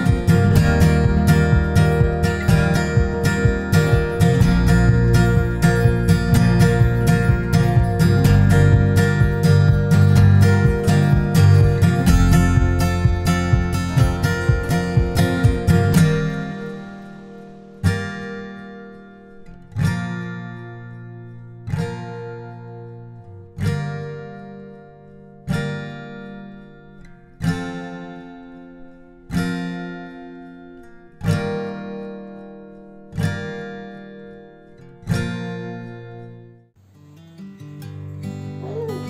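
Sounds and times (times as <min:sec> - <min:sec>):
acoustic guitar strumming chords: 0:00.0 - 0:39.0.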